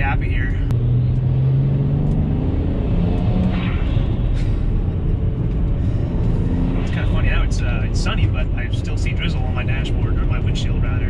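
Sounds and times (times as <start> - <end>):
car engine drone from inside: 0.0 - 11.0.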